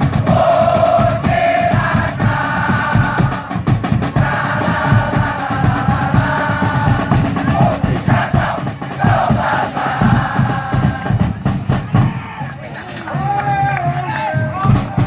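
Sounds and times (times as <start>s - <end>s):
fast dense drumming: 0.0s - 12.5s, 14.3s - 15.0s.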